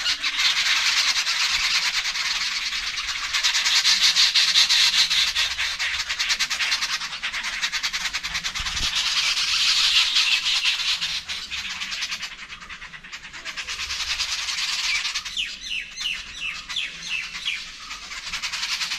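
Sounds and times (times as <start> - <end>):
birds rasping chatter: 0.0 - 18.9.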